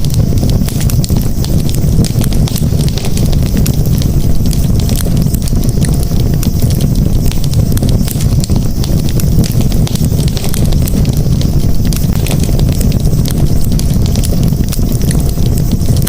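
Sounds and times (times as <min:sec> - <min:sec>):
campfire flames rumbling: 0:00.0 - 0:16.0
wood crackling and popping: 0:00.0 - 0:16.0.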